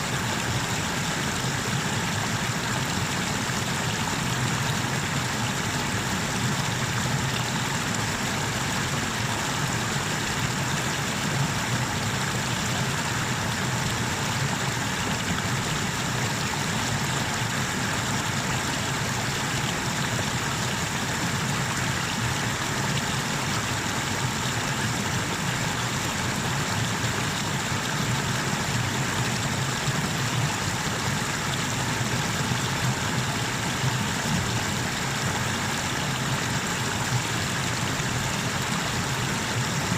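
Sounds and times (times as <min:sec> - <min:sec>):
water rushing over cascades: 0:00.0 - 0:39.9.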